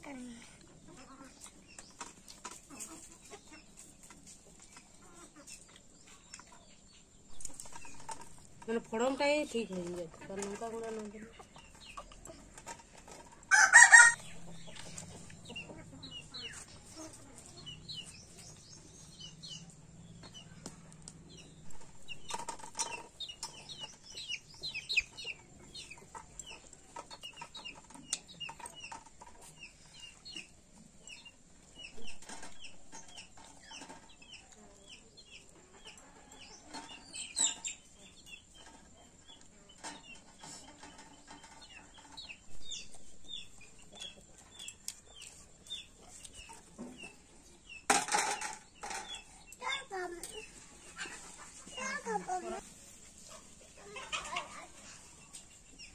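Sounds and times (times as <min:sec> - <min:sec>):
chickens clucking: 0:00.1 - 0:55.9.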